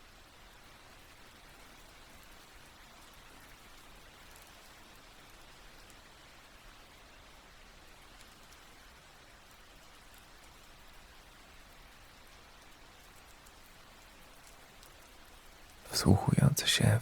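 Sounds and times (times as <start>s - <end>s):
soft steady rainfall: 0.0s - 17.0s.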